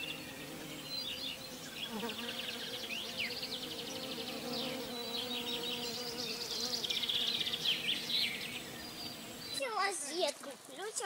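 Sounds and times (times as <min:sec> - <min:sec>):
flying insect buzzing: 0:00.0 - 0:10.8
birds singing trills: 0:00.0 - 0:11.0.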